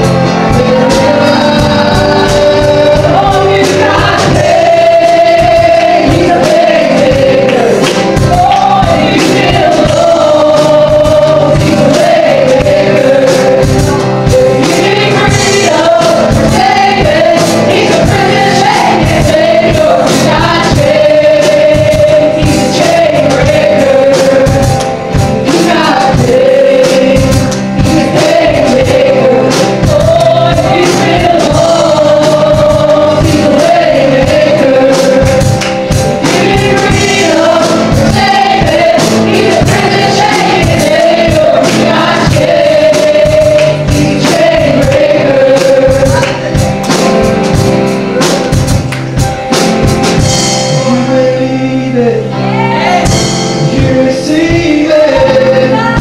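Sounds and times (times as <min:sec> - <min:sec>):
steady beat: 0:00.0 - 0:51.0
guitar: 0:00.0 - 0:56.0
voices singing into microphones: 0:00.0 - 0:56.0.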